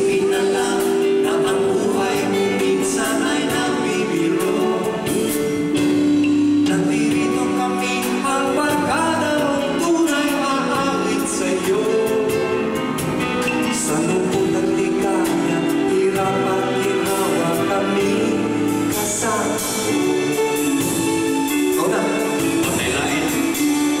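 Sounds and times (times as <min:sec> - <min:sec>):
live band playing: 0:00.0 - 0:24.0
man singing into a microphone: 0:00.0 - 0:24.0.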